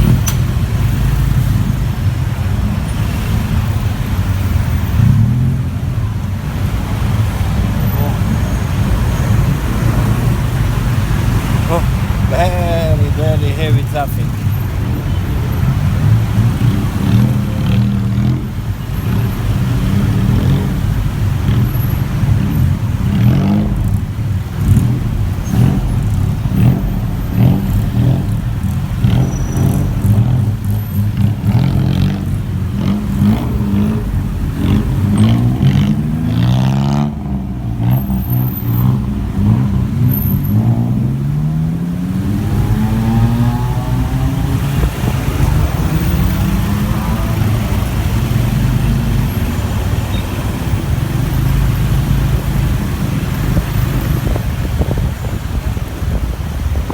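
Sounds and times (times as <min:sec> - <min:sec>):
traffic noise: 0:00.0 - 0:56.9
motorbike engine accelerating: 0:06.7 - 0:56.9.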